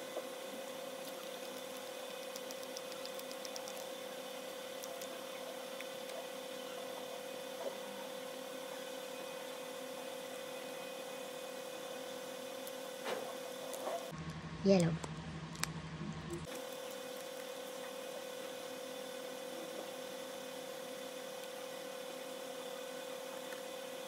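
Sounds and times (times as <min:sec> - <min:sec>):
steady appliance hum: 0:00.0 - 0:24.0.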